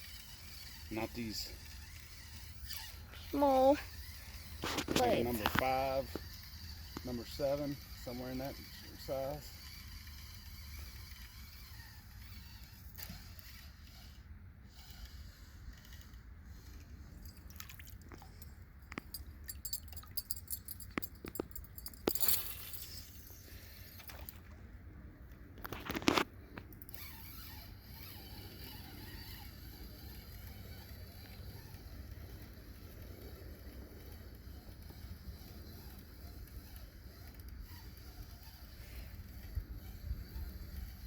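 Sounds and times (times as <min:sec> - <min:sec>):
fishing reel clicking: 0:00.0 - 0:17.4, 0:18.1 - 0:24.5, 0:25.9 - 0:41.0.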